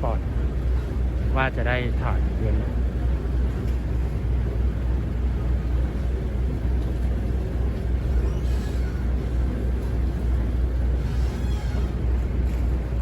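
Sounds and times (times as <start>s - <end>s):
ferry engine rumbling: 0.0s - 13.0s.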